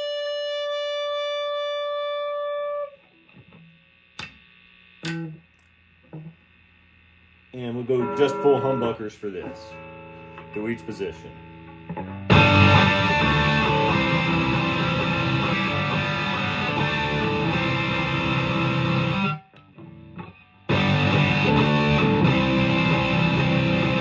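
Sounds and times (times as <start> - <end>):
overdriven electric guitar: 0.0 - 6.6, 7.7 - 24.0.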